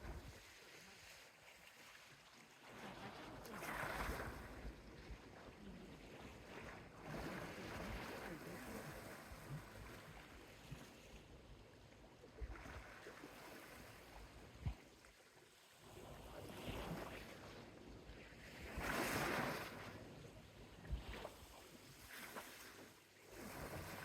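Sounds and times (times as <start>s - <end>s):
sea waves lapping on a beach: 0.0s - 24.0s.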